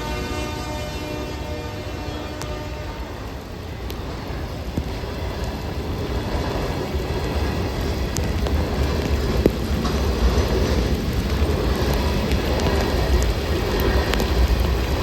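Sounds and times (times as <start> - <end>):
diesel locomotives rumbling past: 0.0 - 15.0
wheel-on-rail rushing noise: 0.0 - 15.0.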